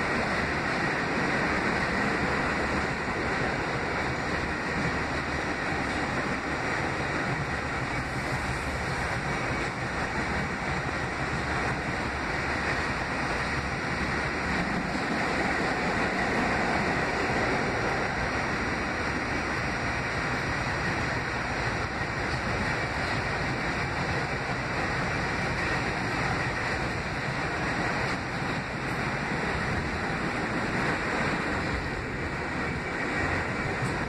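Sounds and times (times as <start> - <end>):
subway car wheels rumbling on rail: 0.0 - 34.0.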